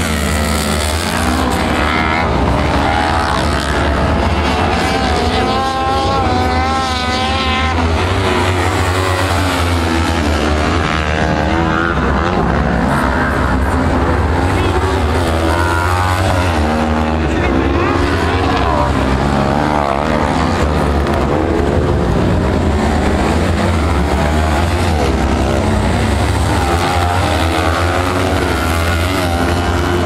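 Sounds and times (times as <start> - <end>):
race buggy engines revving: 0.0 - 30.0.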